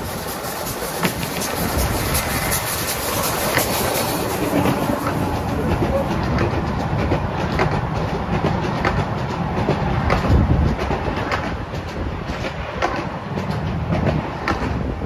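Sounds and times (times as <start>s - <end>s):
miniature train rumbling past: 0.0s - 15.0s
wheels clicking on track: 0.0s - 15.0s.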